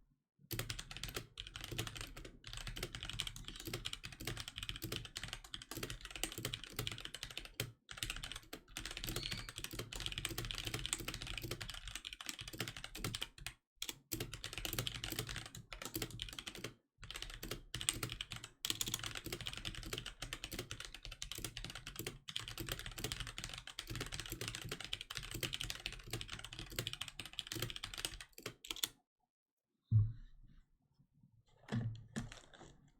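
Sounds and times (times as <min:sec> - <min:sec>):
mechanical keyboard typing: 0:00.5 - 0:29.0.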